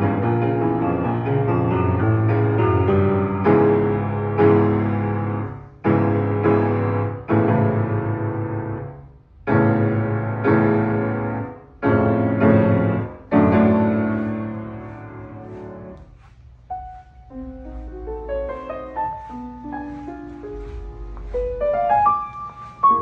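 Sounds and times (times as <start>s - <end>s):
grand piano chords: 0.0s - 23.0s.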